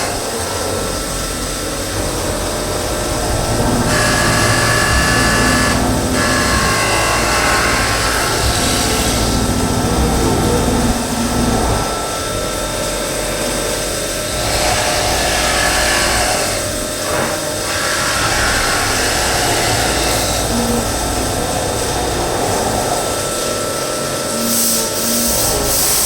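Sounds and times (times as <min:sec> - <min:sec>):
machining centre running: 0:00.0 - 0:26.0.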